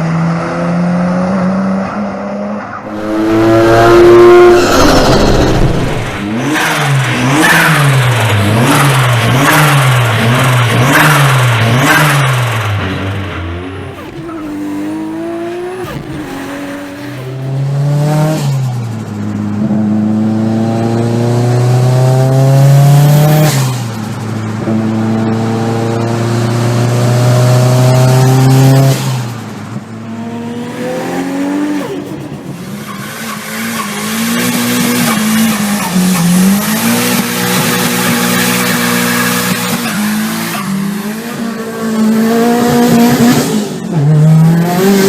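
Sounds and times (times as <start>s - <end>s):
car engine accelerating: 2.6s - 45.0s.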